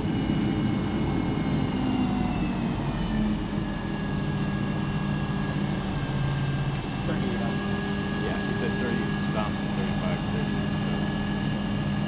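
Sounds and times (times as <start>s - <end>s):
crane engine droning: 0.0s - 12.0s.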